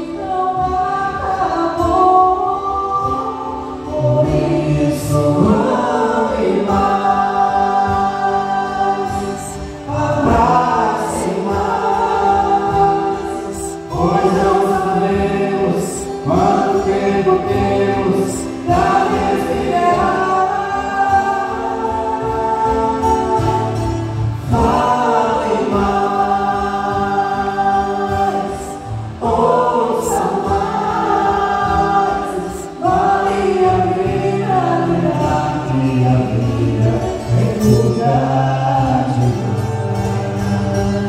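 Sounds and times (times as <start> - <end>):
acoustic guitar: 0.0 - 41.0
woman singing into microphone: 0.0 - 41.0.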